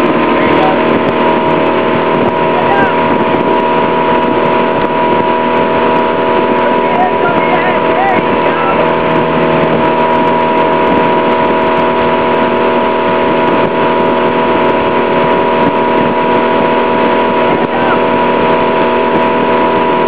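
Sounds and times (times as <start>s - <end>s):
motorboat engine droning: 0.0s - 20.0s
water rushing: 0.0s - 20.0s.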